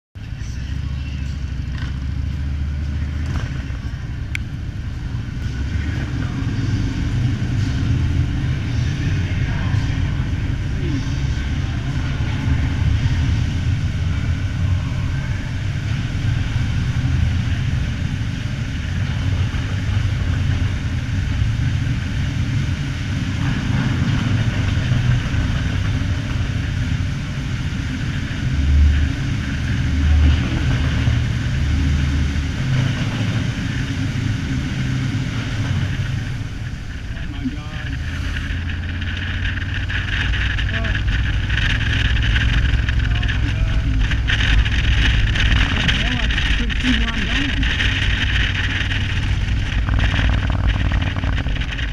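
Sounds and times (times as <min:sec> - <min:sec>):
motorcycle engine rumbling: 0:00.2 - 0:51.9.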